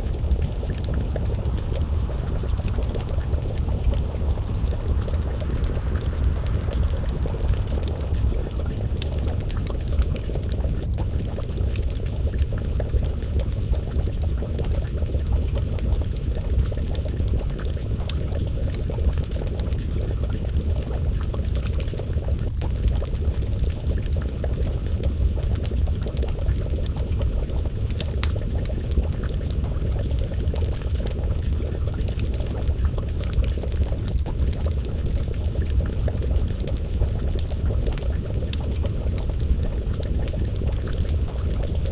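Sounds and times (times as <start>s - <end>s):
low rumble: 0.0s - 41.9s
stew bubbling in a pot: 0.0s - 41.9s
wood fire crackling: 0.0s - 41.9s.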